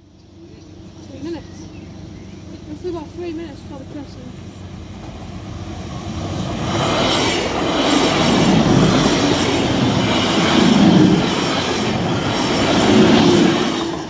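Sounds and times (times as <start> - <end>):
train passing over crossing: 0.0 - 14.0.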